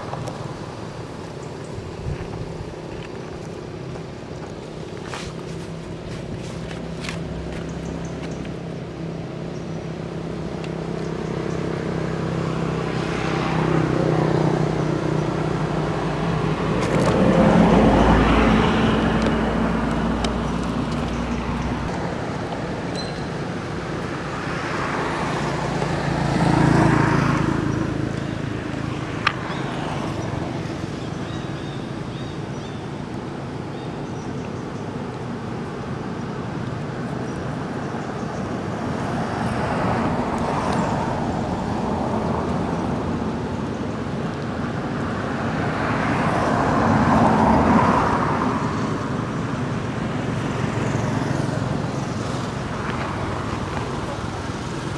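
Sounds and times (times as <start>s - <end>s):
low engine hum: 0.0s - 54.9s
vehicles passing: 0.0s - 54.9s.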